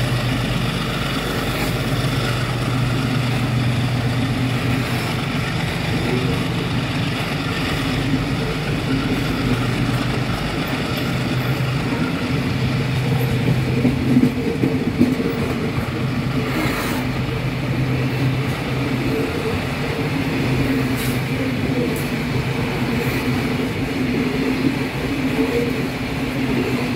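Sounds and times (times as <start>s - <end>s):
train wagons rumbling on rails: 0.0s - 26.9s.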